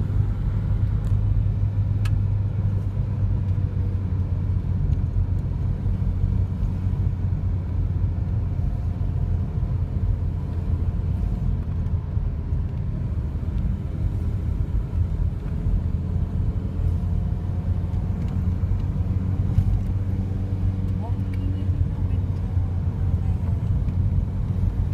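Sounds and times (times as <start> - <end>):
car engine rumble: 0.0 - 24.9
tyres on road: 0.0 - 24.9.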